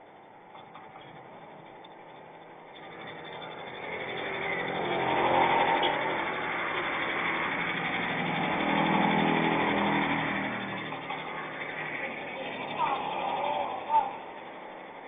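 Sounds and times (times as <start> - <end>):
vehicle engine passing by: 1.1 - 15.0.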